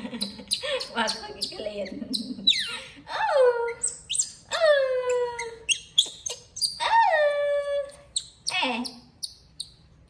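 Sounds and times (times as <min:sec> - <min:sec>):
squeaky chirps: 0:00.1 - 0:07.1, 0:08.0 - 0:10.0
baby monkey crying: 0:00.2 - 0:09.7.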